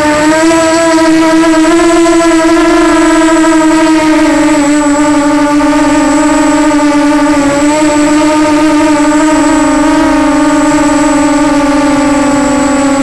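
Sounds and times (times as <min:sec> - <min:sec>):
drone propellers buzzing: 0:00.0 - 0:13.0
thin high whine: 0:00.0 - 0:13.0.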